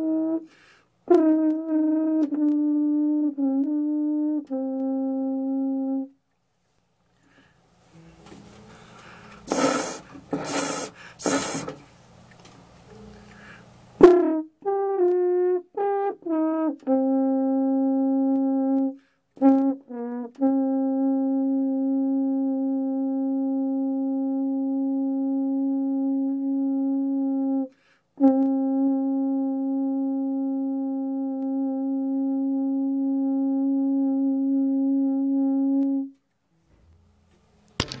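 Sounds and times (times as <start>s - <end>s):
french horn notes: 0.0s - 6.2s, 7.2s - 11.9s, 12.9s - 37.0s.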